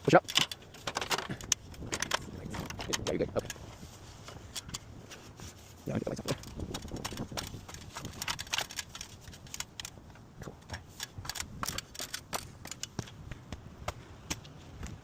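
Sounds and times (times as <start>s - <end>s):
gear clicking and tapping: 0.0s - 4.9s, 6.0s - 15.0s.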